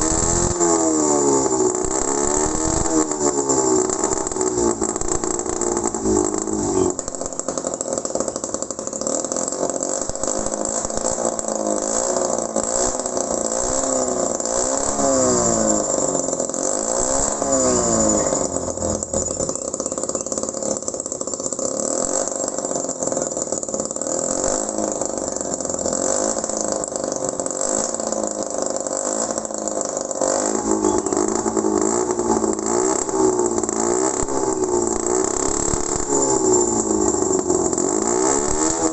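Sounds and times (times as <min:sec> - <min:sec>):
small two-stroke engine running: 0:00.0 - 0:38.9.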